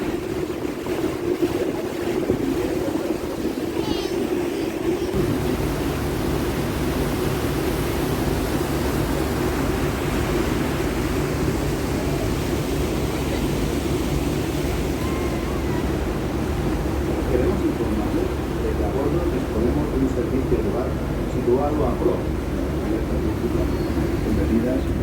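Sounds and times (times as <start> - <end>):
boat engines droning: 0.0 - 25.0
wind and water rushing: 0.0 - 25.0.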